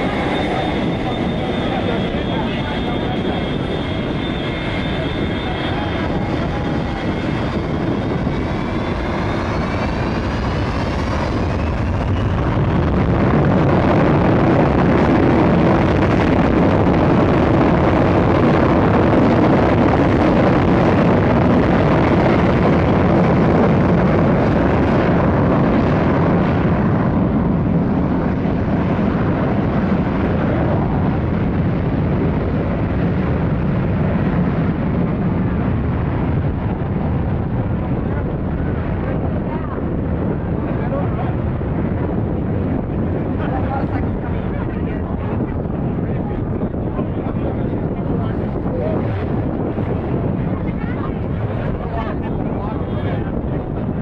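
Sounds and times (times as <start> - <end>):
jet engine rumble: 0.0 - 54.0
jet engines whining: 0.0 - 54.0.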